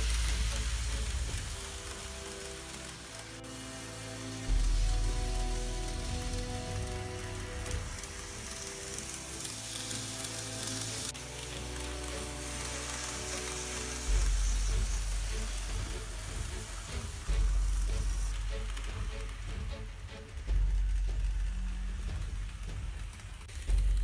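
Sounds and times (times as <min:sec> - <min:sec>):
background music with sustained chords: 0:00.0 - 0:24.0
steady hiss: 0:00.0 - 0:24.0.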